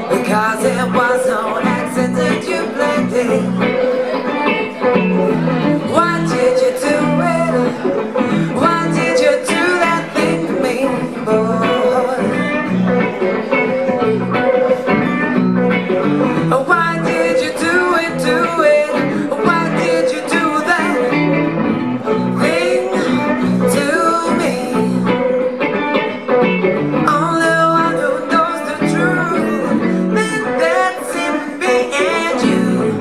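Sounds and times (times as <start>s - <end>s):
woman singing into microphone: 0.0s - 15.2s, 16.4s - 25.6s, 27.1s - 33.0s
electric guitar: 0.0s - 33.0s.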